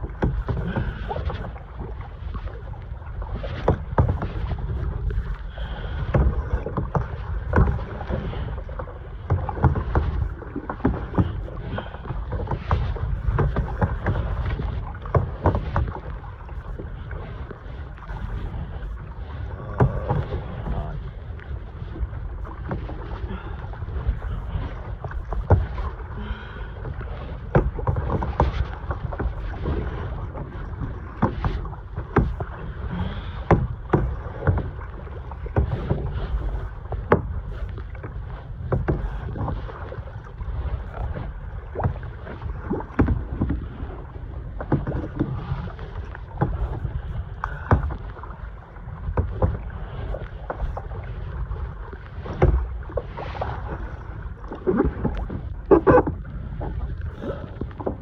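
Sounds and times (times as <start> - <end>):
paddle splashes: 0.0 - 58.0
water slapping against hull: 0.0 - 58.0
wind rumble on microphone: 0.0 - 58.0.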